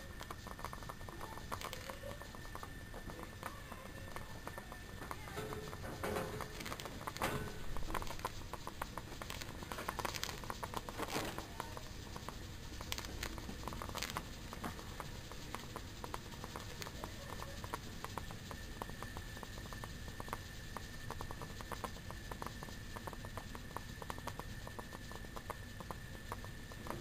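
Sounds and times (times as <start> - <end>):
boiling water crackling clicks: 0.0 - 27.0.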